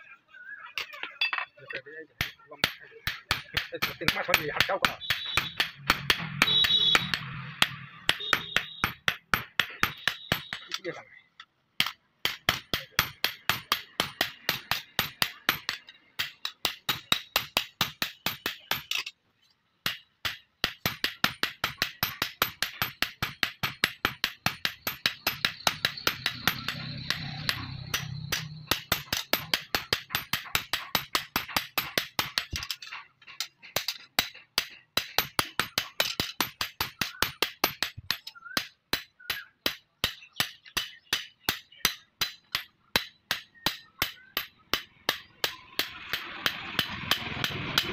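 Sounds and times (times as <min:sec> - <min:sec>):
hammer striking metal on anvil: 0:02.2 - 0:10.8, 0:11.8 - 0:19.1, 0:19.8 - 0:47.9.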